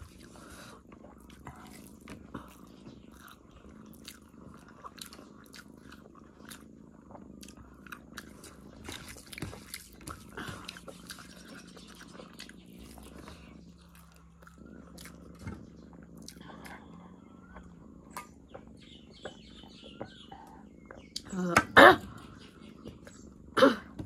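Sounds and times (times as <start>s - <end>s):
faint low hum: 0.0s - 24.0s
chewing and lip smacks: 0.9s - 21.3s.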